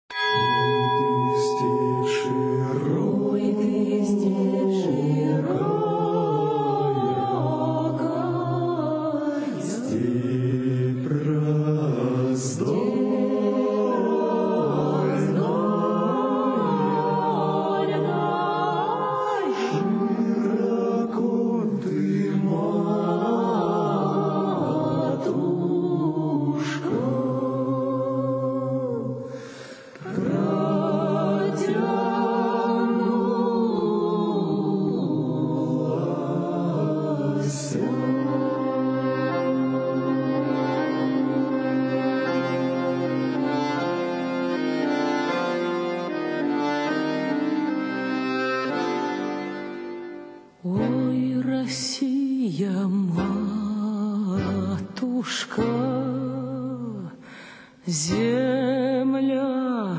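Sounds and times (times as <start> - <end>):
vocal ensemble singing slow song: 0.1 - 59.9.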